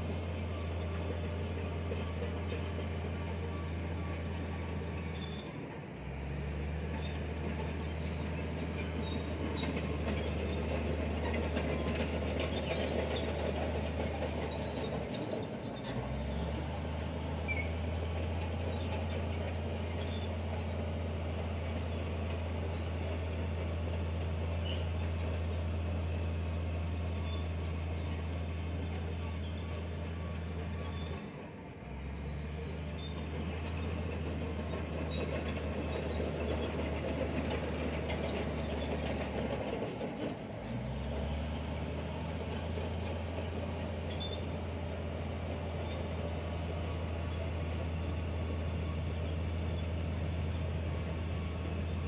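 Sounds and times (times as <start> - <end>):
diesel engine under load: 0.0 - 52.0
metallic squeaks and clicks: 0.2 - 4.2, 5.0 - 5.6, 6.5 - 16.6, 17.4 - 31.4, 32.2 - 40.8, 41.6 - 44.7, 45.7 - 52.0.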